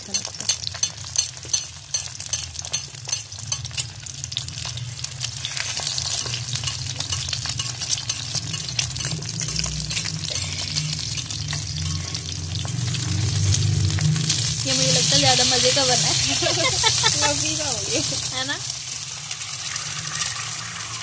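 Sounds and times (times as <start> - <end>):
egg sizzling in hot oil: 0.0 - 21.0
oil popping and crackling: 0.0 - 21.0.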